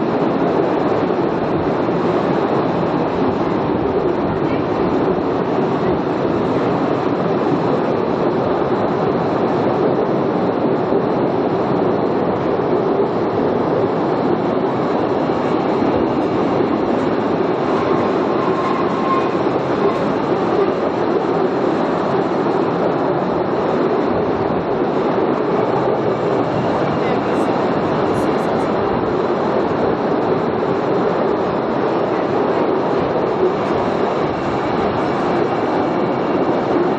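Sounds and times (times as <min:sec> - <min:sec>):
train rumbling along rails: 0:00.0 - 0:36.9.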